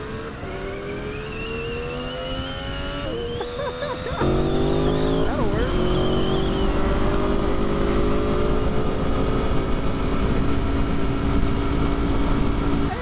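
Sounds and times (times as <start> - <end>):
motorcycle engine: 0.0 - 13.0
wind rumble on microphone: 0.0 - 13.0.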